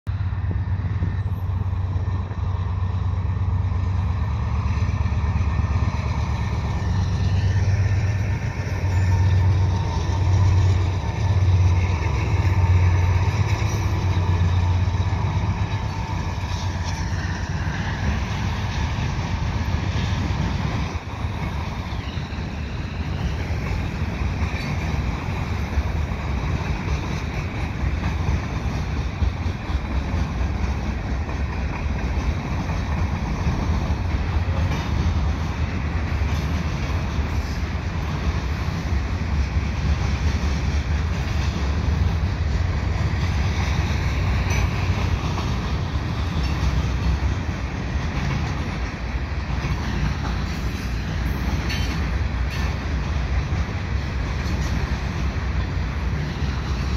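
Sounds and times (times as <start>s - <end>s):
diesel locomotive engine drone: 0.0s - 56.9s
freight cars rumbling and clattering: 0.0s - 56.9s.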